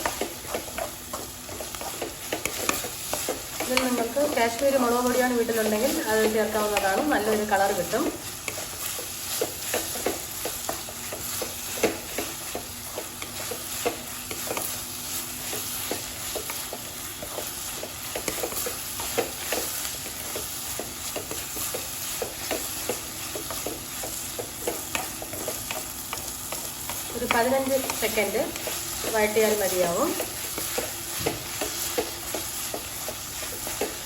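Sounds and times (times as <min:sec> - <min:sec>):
frying sizzle: 0:00.0 - 0:34.0
spoon scraping in a pan: 0:00.0 - 0:34.0.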